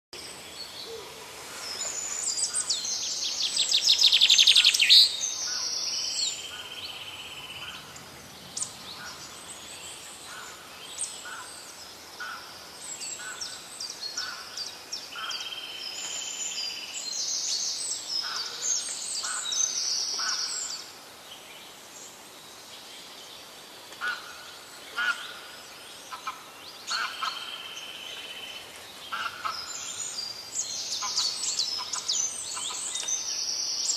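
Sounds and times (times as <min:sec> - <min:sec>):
songbirds singing: 0:00.2 - 0:33.9.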